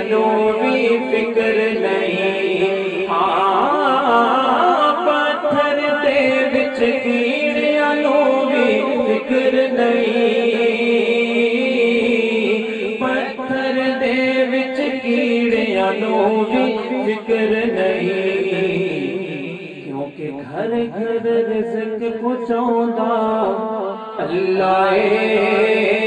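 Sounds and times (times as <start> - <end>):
men chanting drone chorus: 0.0 - 26.0.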